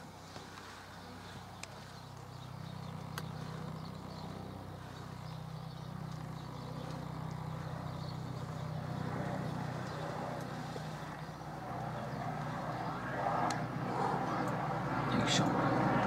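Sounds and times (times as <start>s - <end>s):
helicopter rotor and turbine hum: 0.0s - 16.0s.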